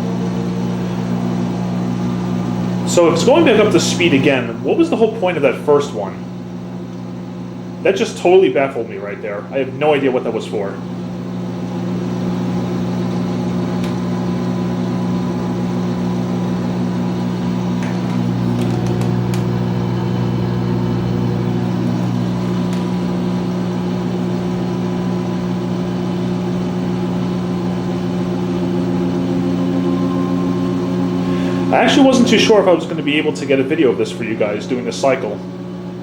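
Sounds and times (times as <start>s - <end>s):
washing machine spin hum: 0.0s - 36.0s.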